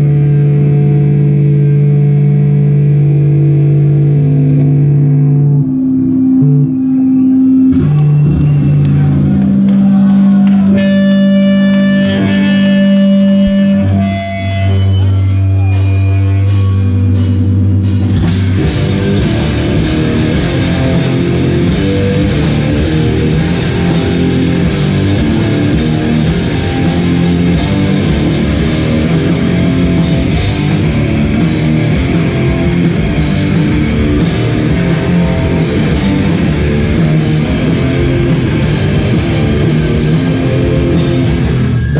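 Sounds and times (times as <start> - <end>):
hardcore band playing live: 0.0 - 41.9
ringing guitar and bass notes: 0.0 - 41.9.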